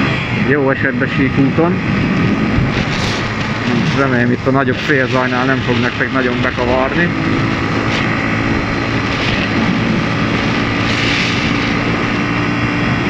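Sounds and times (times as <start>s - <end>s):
motorcycle engine cruising: 0.0s - 13.0s
wind noise on microphone: 0.0s - 13.0s.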